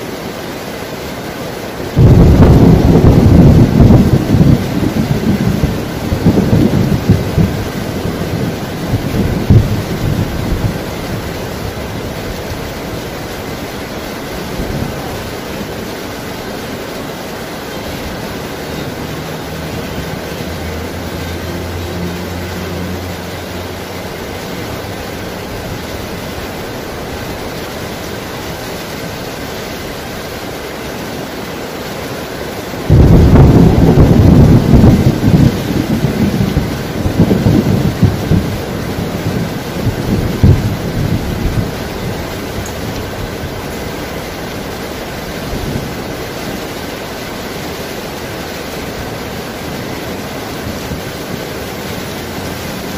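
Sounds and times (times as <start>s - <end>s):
heavy rain hissing: 0.0s - 52.9s
thunder rumbling: 1.9s - 31.1s, 32.7s - 52.9s.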